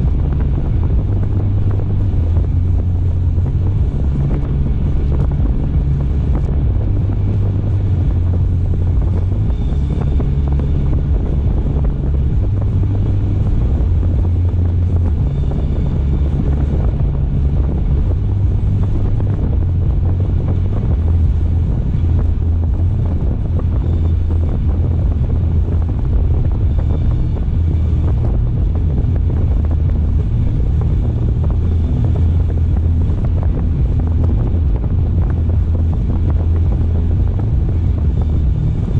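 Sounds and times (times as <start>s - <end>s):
car engine and tyres rumbling: 0.0s - 38.9s
wind noise on microphone: 0.0s - 38.9s.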